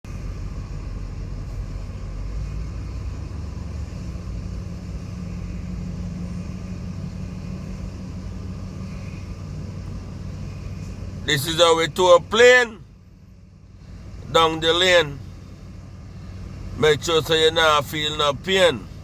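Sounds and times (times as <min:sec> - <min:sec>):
tow tractor engine droning: 0:00.0 - 0:19.0.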